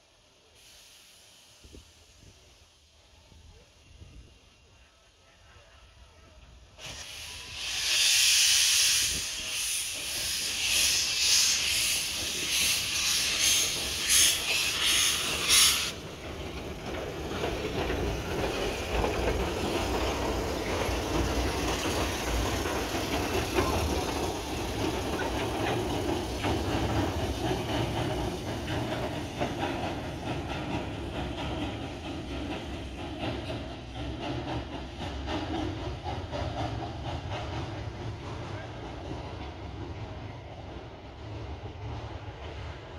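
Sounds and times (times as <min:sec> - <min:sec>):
steam locomotive hissing: 0:00.0 - 0:42.9
train rumble and clatter: 0:00.0 - 0:42.9.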